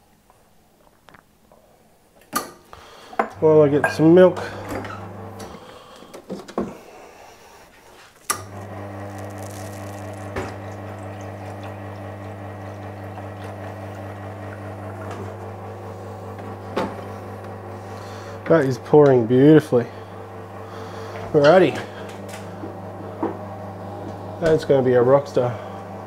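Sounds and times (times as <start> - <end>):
espresso machine pump humming: 3.2 - 6.9, 8.3 - 26.0.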